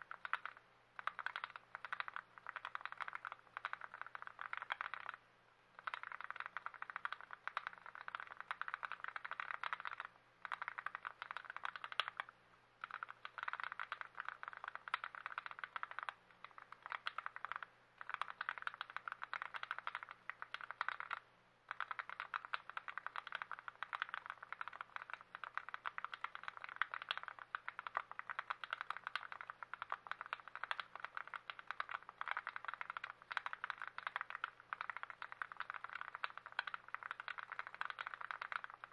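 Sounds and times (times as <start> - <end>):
fast keyboard typing clicks: 0.0 - 5.2, 5.8 - 38.9.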